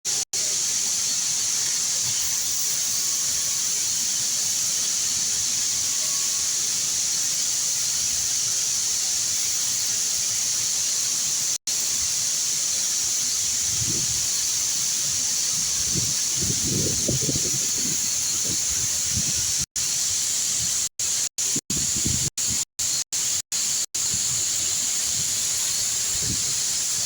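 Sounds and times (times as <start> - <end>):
welding arc crackling hiss: 0.1 - 27.0.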